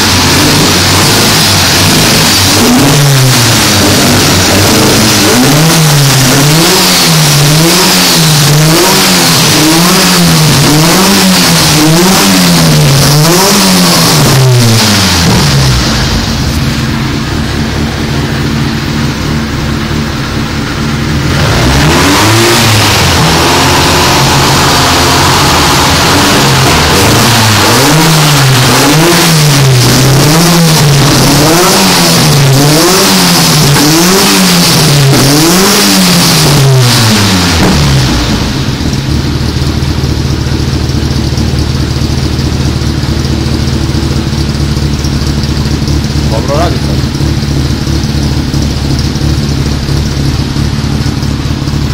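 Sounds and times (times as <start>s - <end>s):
small car engine revving: 0.0s - 51.9s.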